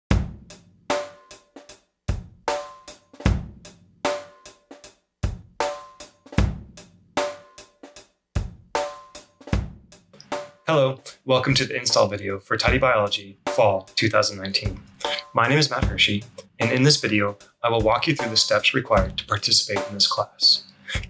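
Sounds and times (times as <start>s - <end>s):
drum kit beat: 0.1s - 21.0s.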